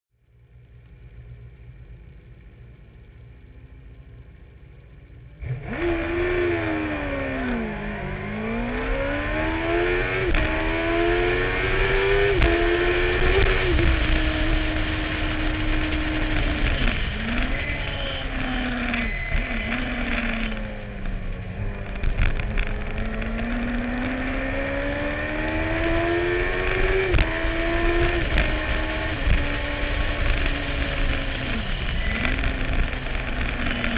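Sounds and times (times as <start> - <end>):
racing engine revving through gears: 5.4 - 33.9.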